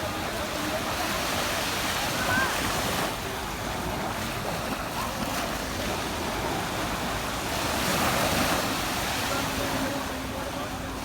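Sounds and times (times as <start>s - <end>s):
surf waves washing onto beach: 0.0s - 11.0s.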